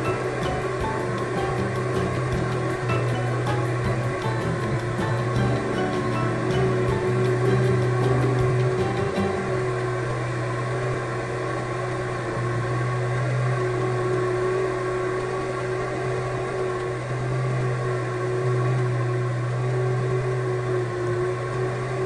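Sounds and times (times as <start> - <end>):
ceiling fan motor humming: 0.0 - 22.0.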